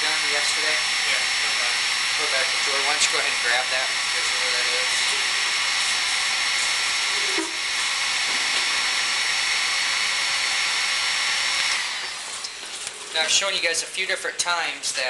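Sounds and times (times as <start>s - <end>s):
heat gun blowing: 0.0s - 13.4s.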